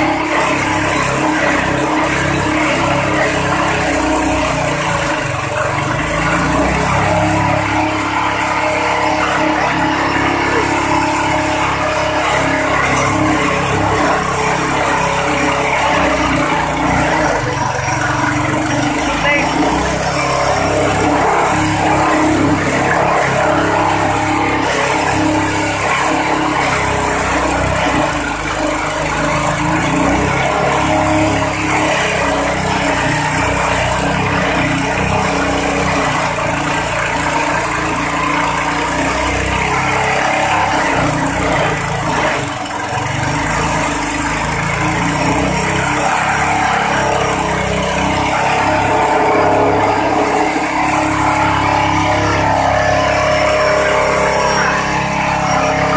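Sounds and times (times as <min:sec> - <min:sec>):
blades shredding grass: 0:00.0 - 0:55.9
petrol engine grass chopper: 0:00.0 - 0:55.9.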